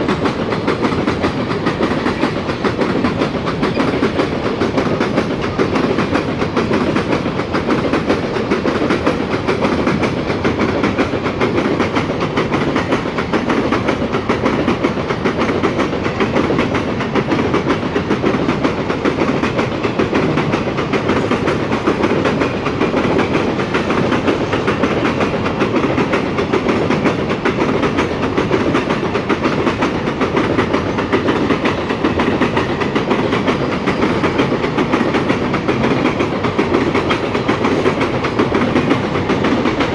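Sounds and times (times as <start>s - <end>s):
freight train wheels rumbling: 0.0s - 39.9s
wheels clicking over rail joints: 0.0s - 39.9s.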